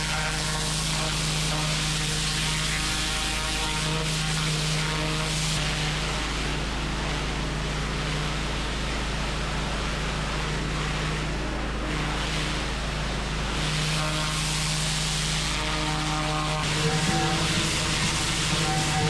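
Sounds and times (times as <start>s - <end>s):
pressure washer engine hum: 0.0s - 19.0s
water jet hissing on paving: 0.0s - 19.0s.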